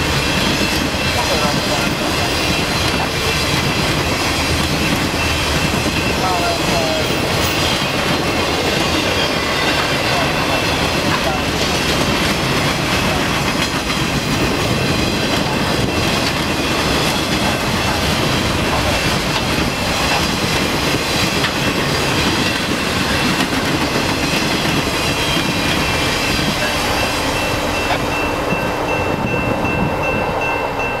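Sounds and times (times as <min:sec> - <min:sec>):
wheels clattering over rail joints: 0:00.0 - 0:28.6
train wheels rushing on rail: 0:00.0 - 0:31.0.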